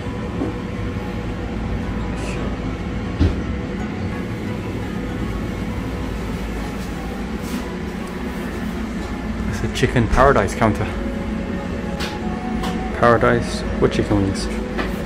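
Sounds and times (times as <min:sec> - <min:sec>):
machinery rumble and hum: 0:00.0 - 0:15.0.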